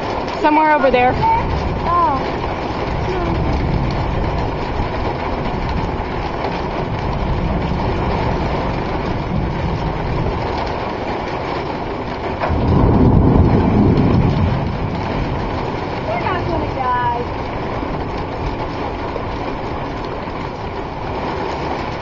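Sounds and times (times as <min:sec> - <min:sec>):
rushing storm wind: 0:00.0 - 0:22.0.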